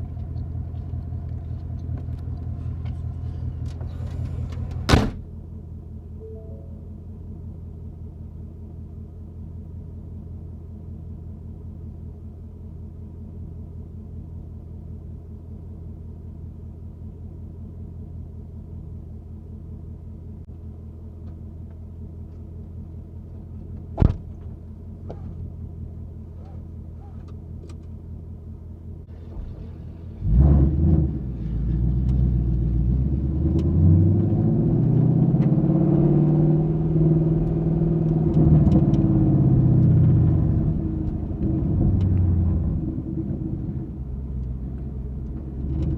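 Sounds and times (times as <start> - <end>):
car exhaust idling and revving: 0.0 - 45.9.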